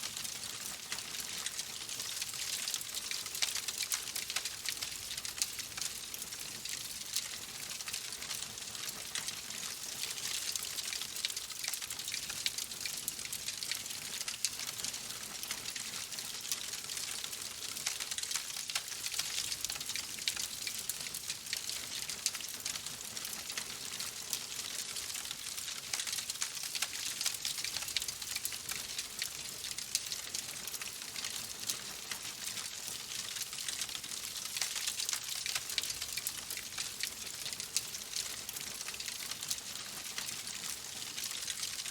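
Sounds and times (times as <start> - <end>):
wood fire crackling: 0.2 - 41.9.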